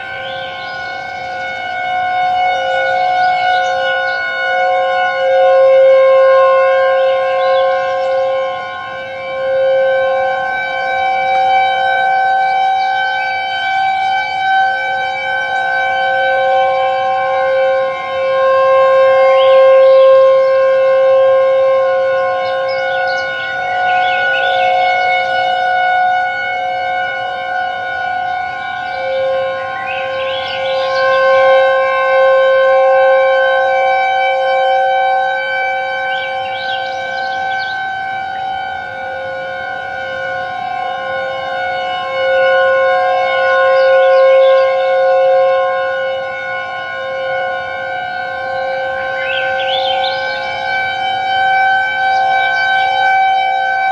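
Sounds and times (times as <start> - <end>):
siren on steady pitch: 0.0 - 53.9.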